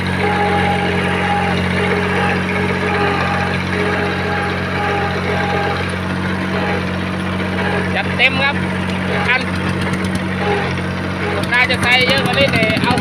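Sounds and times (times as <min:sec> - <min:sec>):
high whine: 0:00.0 - 0:12.7
diesel engine idling: 0:00.0 - 0:13.0.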